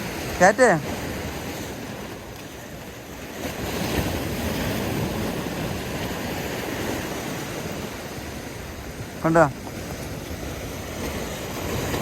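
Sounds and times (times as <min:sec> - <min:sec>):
water: 0:00.0 - 0:12.0.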